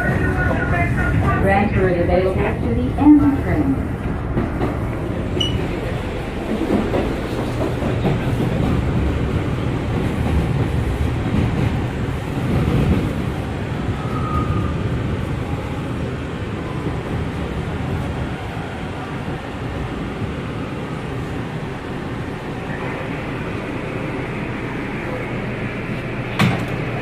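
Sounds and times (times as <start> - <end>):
subway car rumble: 0.0 - 27.0.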